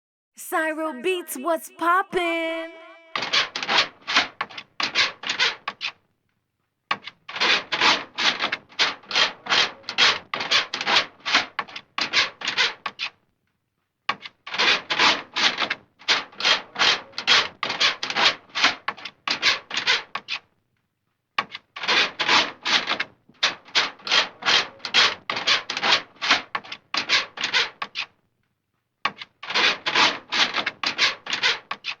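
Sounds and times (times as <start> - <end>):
scratching on a door: 3.2 - 6.0, 6.9 - 13.2, 14.0 - 20.6, 21.3 - 28.3, 29.0 - 32.0.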